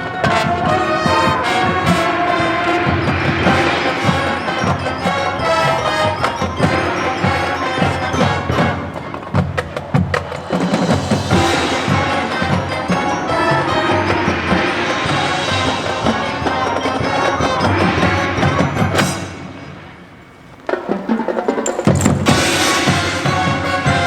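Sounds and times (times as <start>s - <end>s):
marching percussion strikes: 0.0s - 19.8s, 20.4s - 24.0s
brass and wind lines: 0.0s - 24.0s.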